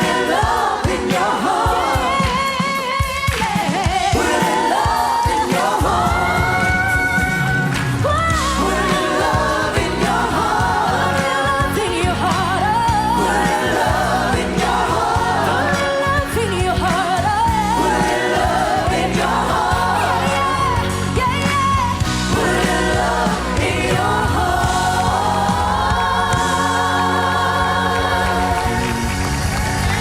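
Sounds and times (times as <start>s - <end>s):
band accompaniment: 0.0s - 30.0s
choir singing worship song: 0.0s - 30.0s.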